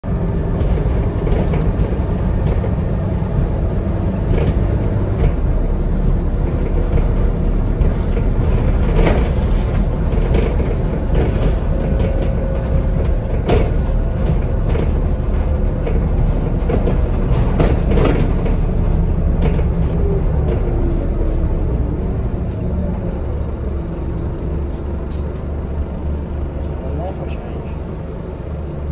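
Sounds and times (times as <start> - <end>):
bus diesel engine drone: 0.0 - 28.9.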